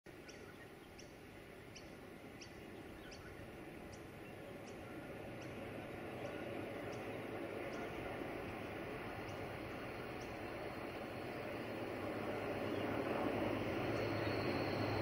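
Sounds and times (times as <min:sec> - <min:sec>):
diesel locomotives rumbling: 0:00.6 - 0:15.0.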